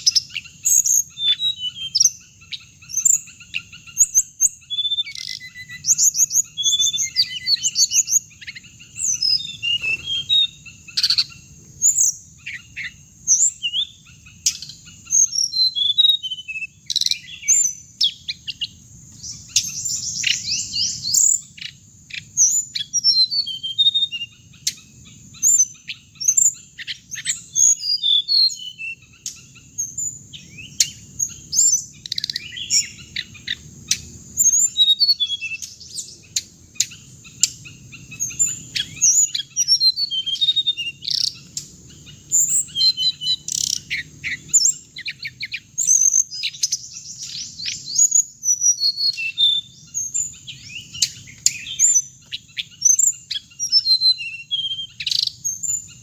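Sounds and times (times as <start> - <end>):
bird chirps and whistles: 0.0 - 56.0.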